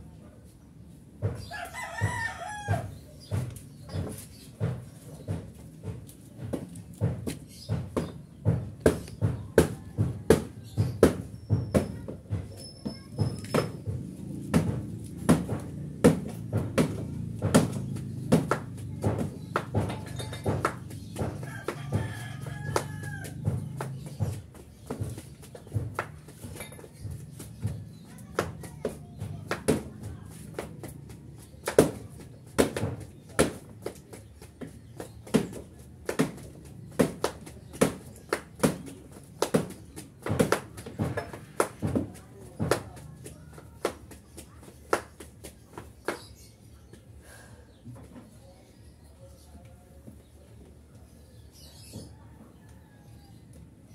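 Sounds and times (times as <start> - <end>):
rubber slippers slapping on concrete: 1.0 - 47.4.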